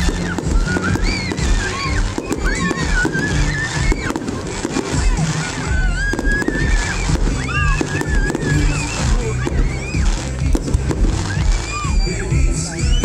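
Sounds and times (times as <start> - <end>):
crowd shouting and screaming: 0.0 - 13.0
fireworks bursting and crackling: 0.0 - 13.0
loud music with heavy bass: 0.0 - 13.0.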